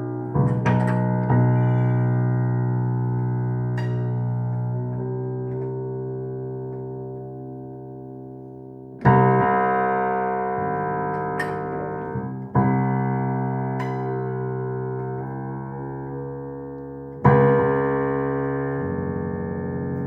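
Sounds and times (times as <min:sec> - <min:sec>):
piano notes ringing: 0:00.0 - 0:20.0.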